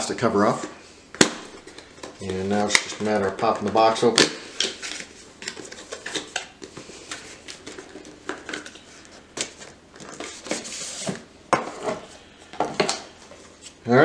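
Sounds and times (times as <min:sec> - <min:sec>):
cardboard and paper rustling: 0:00.0 - 0:13.8.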